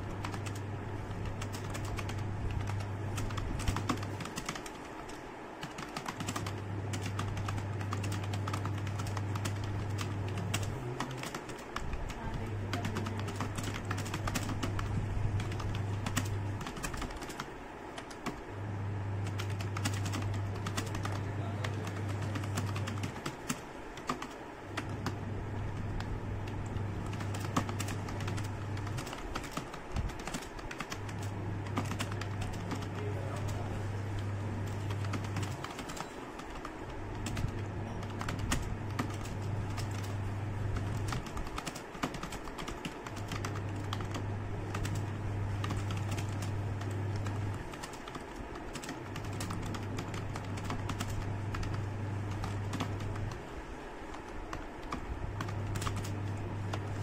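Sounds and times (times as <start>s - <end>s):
fast keyboard typing: 0.0s - 57.0s.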